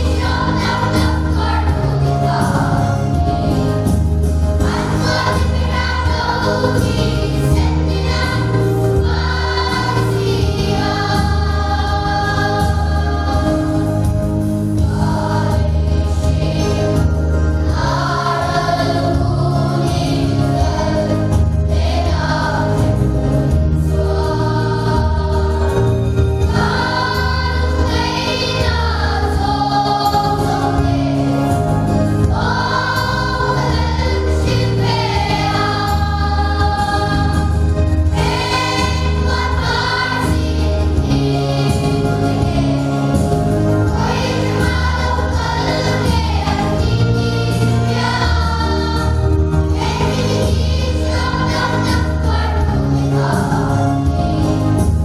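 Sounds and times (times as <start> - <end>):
children's choir singing gospel: 0.0 - 55.0
instrumental accompaniment with bass: 0.0 - 55.0.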